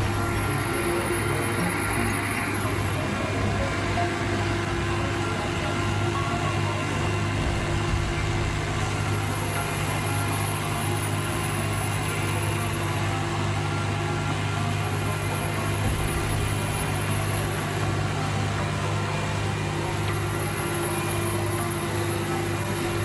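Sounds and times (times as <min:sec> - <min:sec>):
high-pitched whine: 0:00.0 - 0:23.0
low engine drone: 0:00.0 - 0:23.0.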